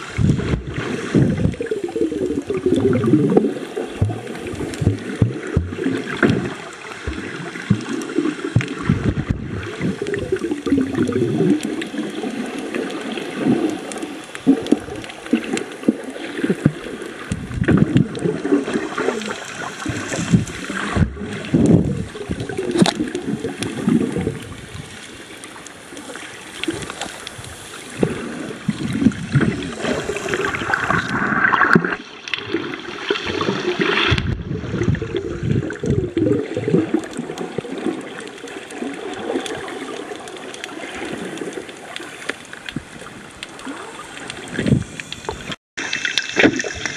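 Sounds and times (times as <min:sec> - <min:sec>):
underwater gurgling and bubbling: 0:00.0 - 0:46.9.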